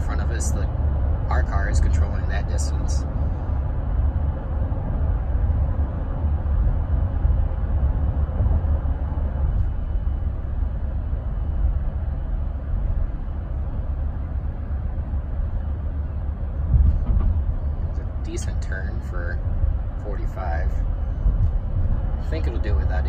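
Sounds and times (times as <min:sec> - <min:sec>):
low cabin rumble: 0:00.0 - 0:23.0
road and tyre noise: 0:00.0 - 0:23.0.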